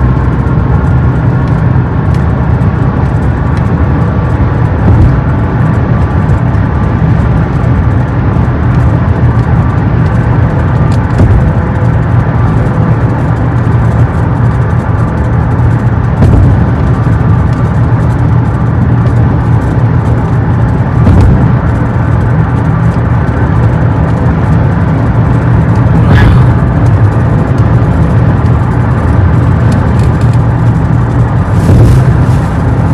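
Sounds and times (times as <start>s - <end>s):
car cabin road rumble: 0.0s - 32.9s.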